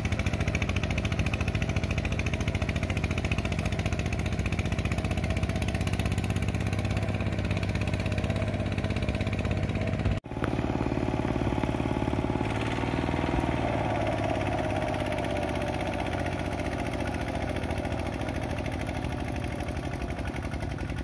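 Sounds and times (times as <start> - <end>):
diesel tiller engine under load: 0.0 - 21.0.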